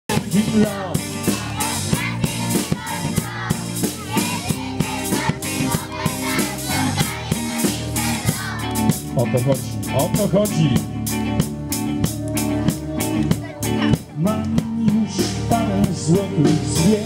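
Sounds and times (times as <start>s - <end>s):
bass: 0.1s - 17.0s
drum kit beat: 0.1s - 17.0s
electric guitar: 0.1s - 17.0s.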